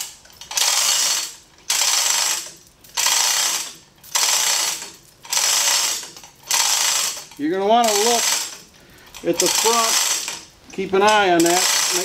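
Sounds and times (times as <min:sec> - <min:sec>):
chain clattering through hoist ratchet: 0:00.0 - 0:12.0.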